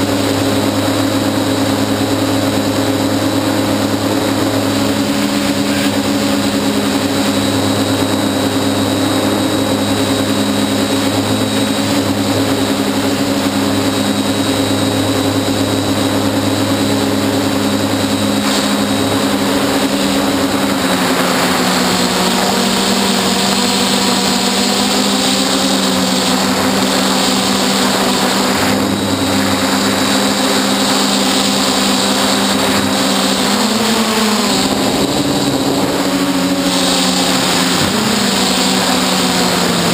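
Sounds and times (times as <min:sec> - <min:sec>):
drone motors and propellers humming: 0:00.0 - 0:39.9.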